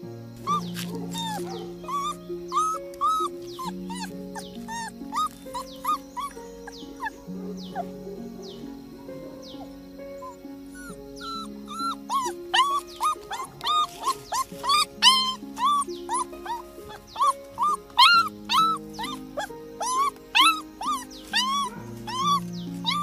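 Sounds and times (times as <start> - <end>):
background music with held notes: 0.0 - 23.0
puppy whimpering: 0.4 - 23.0.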